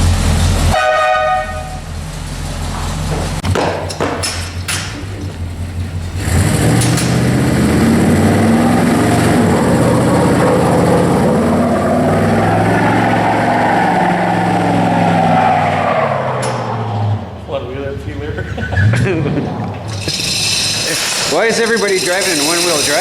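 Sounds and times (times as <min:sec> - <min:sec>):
three-wheeler engine revving: 0:01.8 - 0:17.3, 0:18.7 - 0:23.0.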